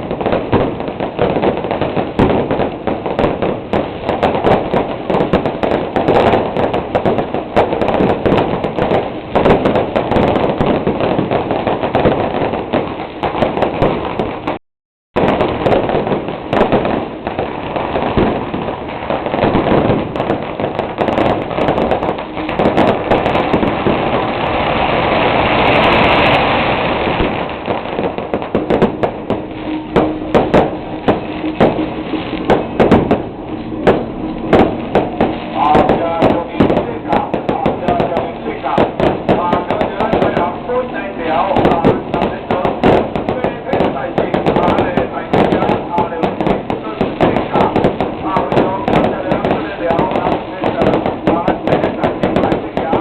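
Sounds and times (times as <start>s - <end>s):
firecrackers crackling and banging: 0.0s - 14.6s, 15.2s - 53.0s
fireworks hissing: 0.0s - 14.6s, 15.2s - 53.0s.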